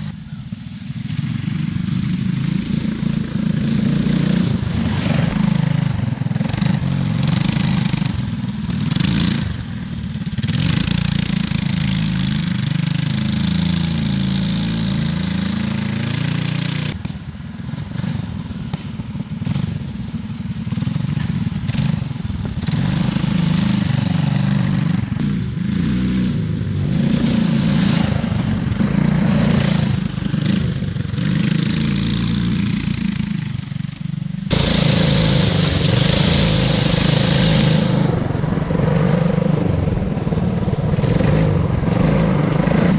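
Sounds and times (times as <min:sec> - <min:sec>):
go-kart engines revving: 0:00.0 - 0:42.9.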